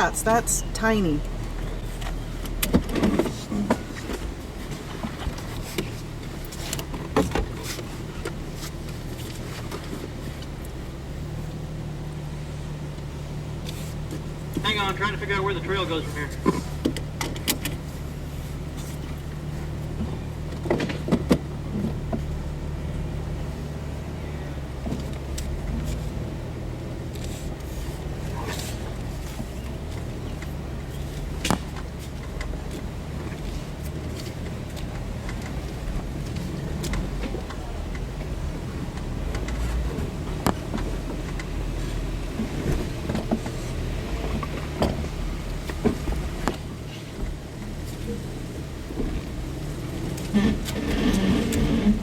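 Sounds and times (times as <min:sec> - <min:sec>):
engine running at low revs: 0:00.0 - 0:52.0.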